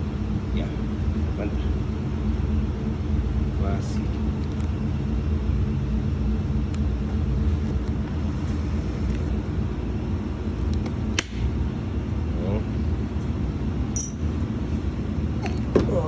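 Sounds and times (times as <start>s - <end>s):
machinery low rumble: 0.0s - 16.0s.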